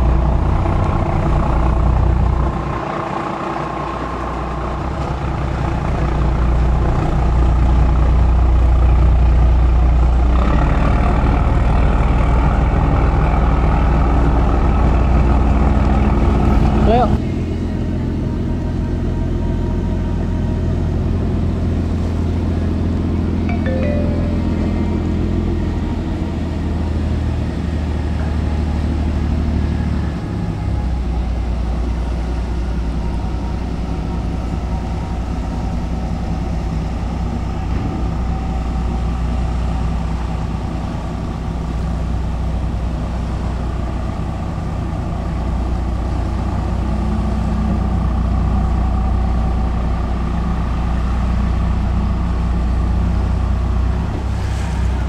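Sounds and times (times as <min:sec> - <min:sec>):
ferry diesel engines droning: 0:00.0 - 0:55.0.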